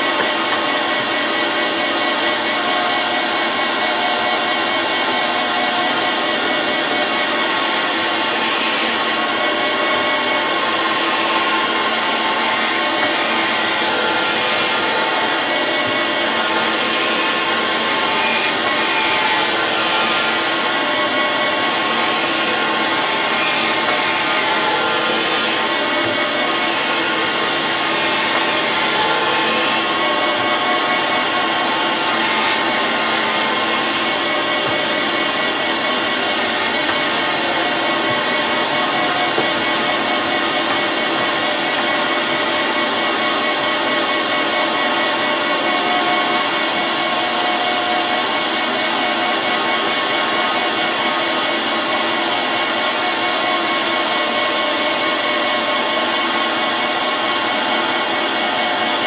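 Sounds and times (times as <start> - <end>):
machine tool cutting steel: 0.0 - 59.0.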